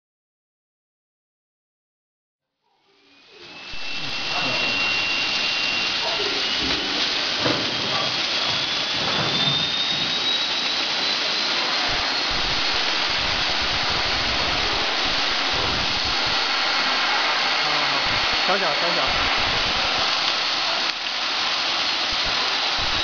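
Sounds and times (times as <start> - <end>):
blaster dryer air rush: 3.0 - 23.0.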